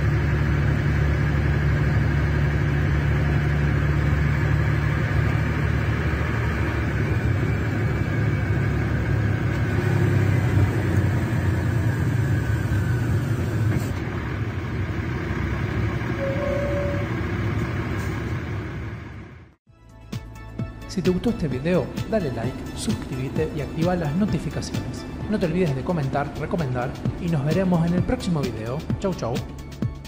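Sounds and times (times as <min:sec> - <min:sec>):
diesel coach engine running: 0:00.0 - 0:19.6, 0:20.4 - 0:30.0.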